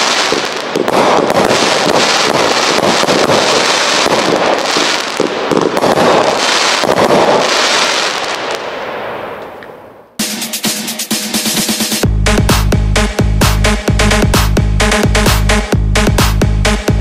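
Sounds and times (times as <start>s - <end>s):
firework shots and aerial bursts: 0.0s - 17.0s.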